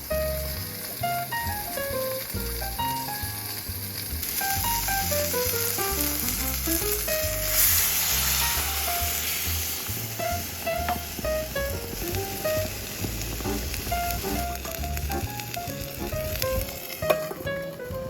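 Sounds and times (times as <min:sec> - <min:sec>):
background music with plucked notes: 0:00.0 - 0:18.0
food sizzling in frying pan: 0:00.0 - 0:18.0.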